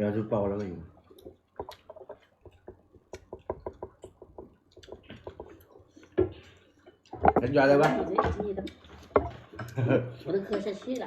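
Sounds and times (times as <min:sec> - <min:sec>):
light irregular clicks and taps: 0:00.5 - 0:09.8.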